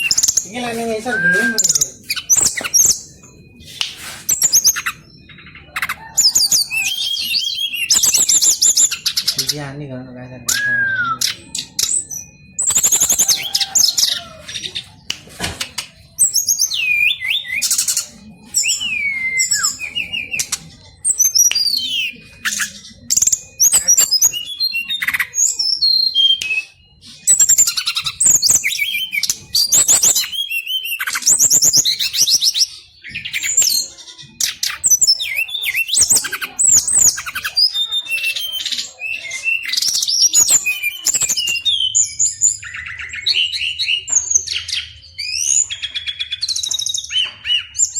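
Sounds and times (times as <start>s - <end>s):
birds singing whistled phrases: 0.0s - 47.9s.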